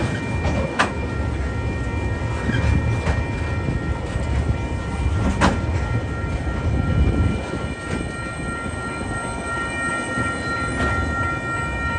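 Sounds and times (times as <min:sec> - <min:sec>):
high-pitched tones: 0:00.0 - 0:11.9
train wheels rumbling on rail: 0:00.0 - 0:11.9.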